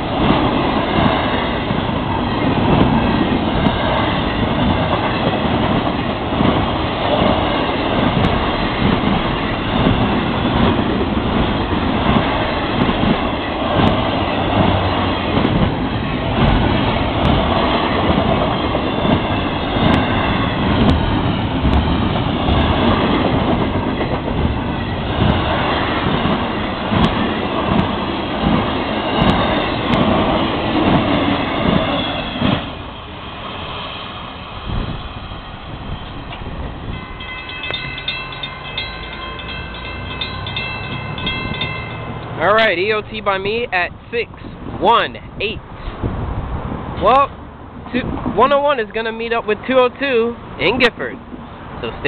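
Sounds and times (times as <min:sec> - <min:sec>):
train wheels clattering: 0:00.0 - 0:43.0
crossing warning bell ringing: 0:00.0 - 0:45.3.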